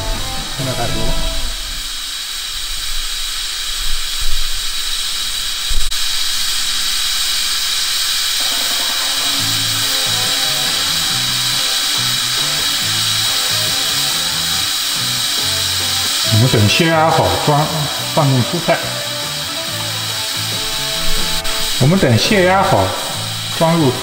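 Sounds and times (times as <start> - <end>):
steam hissing from valve: 0.0 - 24.0.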